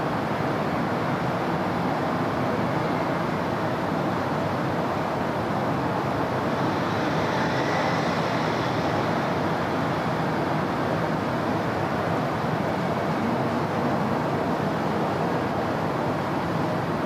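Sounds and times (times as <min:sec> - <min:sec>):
city road traffic: 0:00.3 - 0:17.0.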